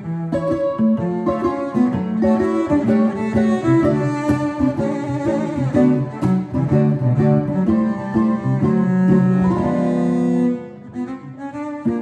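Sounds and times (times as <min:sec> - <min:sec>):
bowed cello: 0:00.0 - 0:12.0
plucked mandolin notes: 0:00.0 - 0:12.0.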